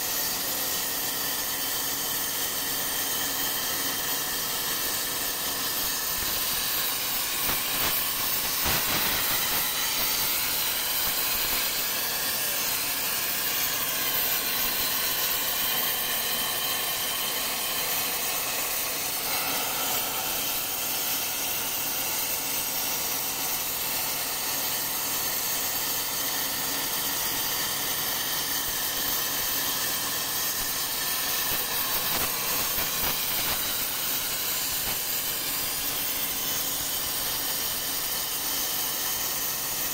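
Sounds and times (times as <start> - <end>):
plasma torch hissing: 0.0 - 39.9.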